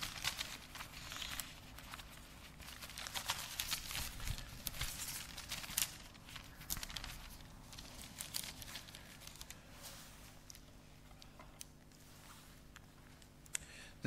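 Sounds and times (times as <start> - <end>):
pages rustling: 0.0 - 13.3.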